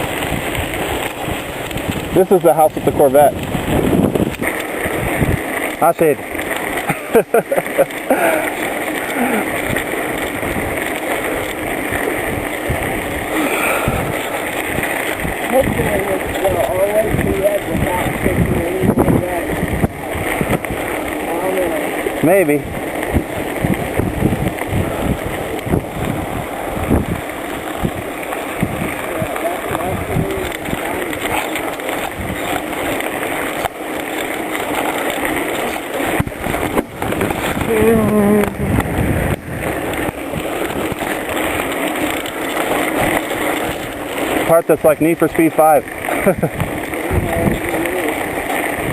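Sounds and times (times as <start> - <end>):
bicycle tyres rolling on trail: 0.0 - 48.9
bike knocking and rattling: 0.0 - 48.9
wind buffeting microphone: 0.0 - 48.9.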